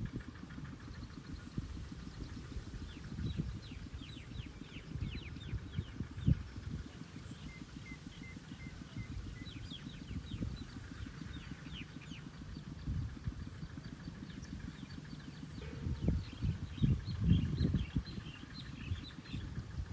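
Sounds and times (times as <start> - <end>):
birds chirping: 0.1 - 19.9.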